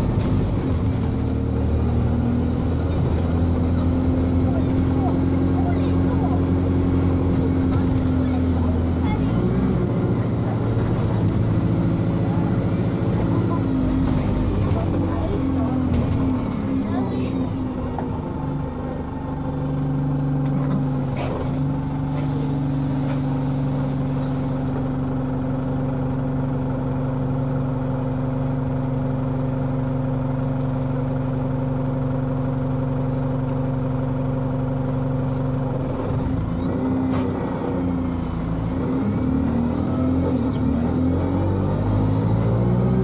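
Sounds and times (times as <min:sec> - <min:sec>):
bus engine running: 0:00.0 - 0:43.0.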